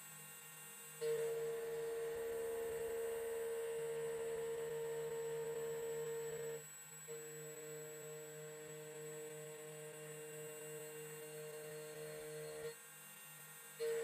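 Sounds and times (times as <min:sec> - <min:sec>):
milling machine motor whine: 0:01.0 - 0:12.7, 0:13.8 - 0:14.0.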